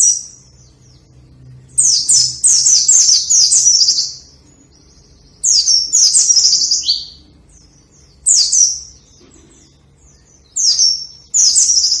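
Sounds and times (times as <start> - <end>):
bird twittering song: 0.0 - 12.0.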